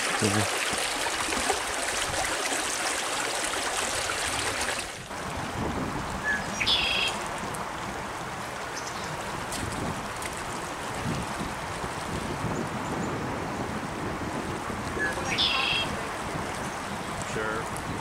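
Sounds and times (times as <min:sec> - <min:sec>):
creek rushing over rocks: 0:00.0 - 0:18.0.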